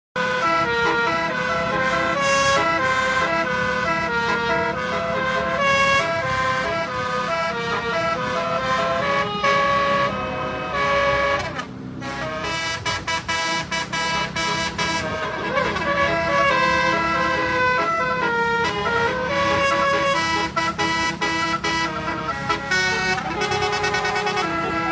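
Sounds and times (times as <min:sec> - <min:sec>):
melodic bus horn: 0:00.2 - 0:24.9.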